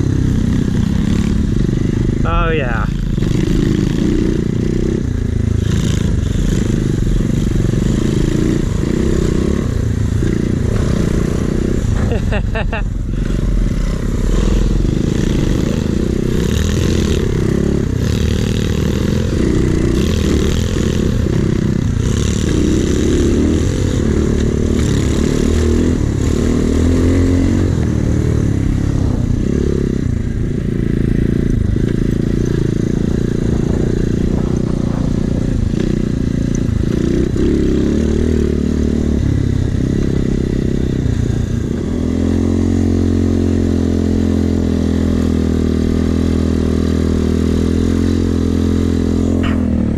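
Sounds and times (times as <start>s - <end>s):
pit bike engine revving: 0.0s - 49.9s.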